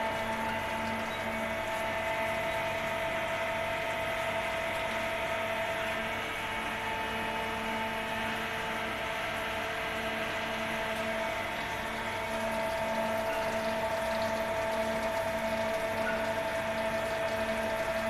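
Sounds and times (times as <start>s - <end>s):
machine whine: 0.0s - 18.0s.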